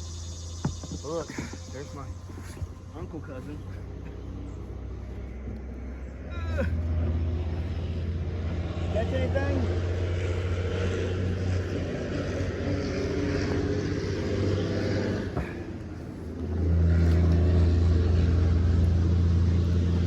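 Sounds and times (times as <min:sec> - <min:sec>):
motorboat engine humming: 0:00.0 - 0:20.0.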